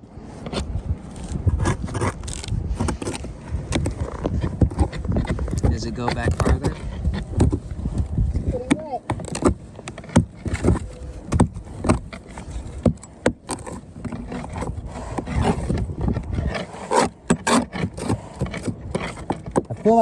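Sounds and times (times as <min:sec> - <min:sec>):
scraping and knocking on boat deck: 0:00.4 - 0:20.0.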